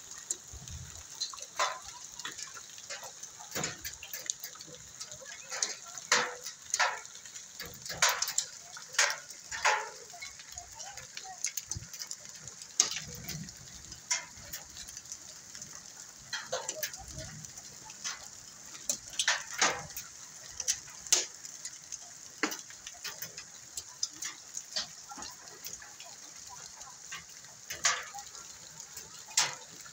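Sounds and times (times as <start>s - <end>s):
hailstones knocking on hard surfaces: 0.0s - 29.9s
rain hissing: 0.0s - 29.9s.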